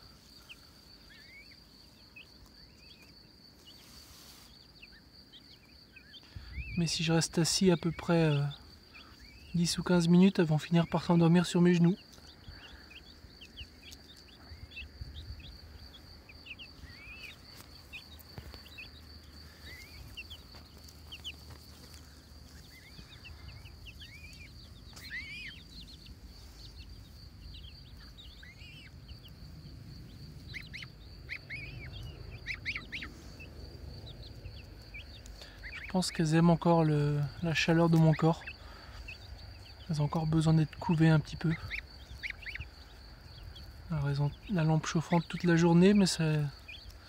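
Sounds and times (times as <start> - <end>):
baby birds peeping: 0.0 - 47.0.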